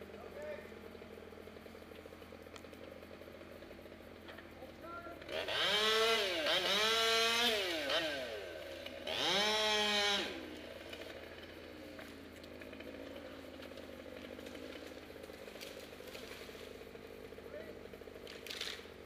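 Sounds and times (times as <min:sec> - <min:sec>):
chainsaw idling: 0:00.0 - 0:19.0
chainsaw revving: 0:00.0 - 0:19.0.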